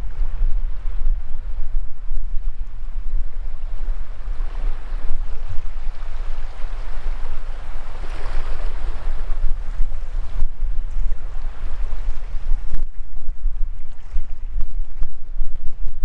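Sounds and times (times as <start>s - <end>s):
low wind rumble on microphone: 0.0s - 16.0s
small waves washing on sand: 2.4s - 15.8s.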